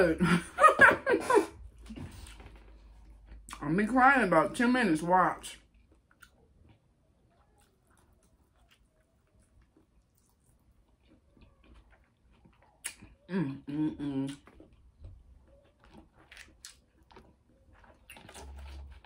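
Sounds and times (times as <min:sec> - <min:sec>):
soft chewing: 0:01.6 - 0:03.6, 0:05.6 - 0:19.0.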